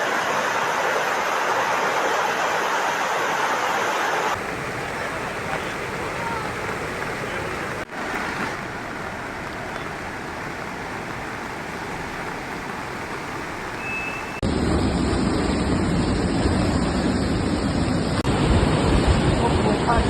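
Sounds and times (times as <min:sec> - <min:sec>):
river rushing roar: 0:00.0 - 0:20.0.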